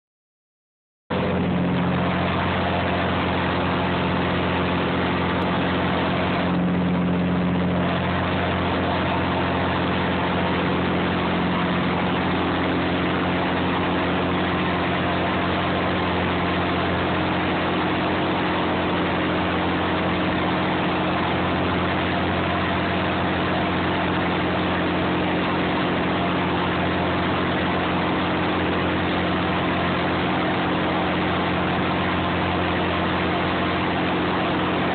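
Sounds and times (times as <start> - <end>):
boat engine droning: 1.1 - 34.9.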